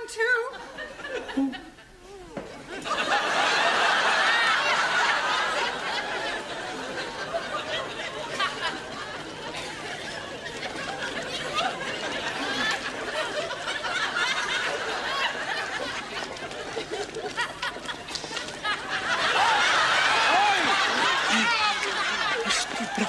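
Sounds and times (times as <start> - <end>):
audience laughing: 2.5 - 23.0.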